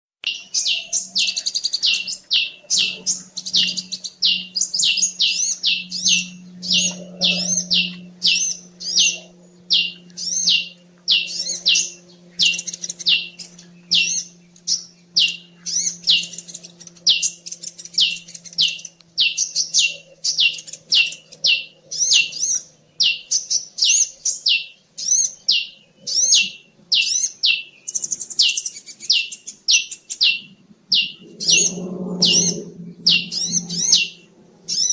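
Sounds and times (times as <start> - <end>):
birds chirping: 0.2 - 34.9
faint low hum: 0.2 - 34.9.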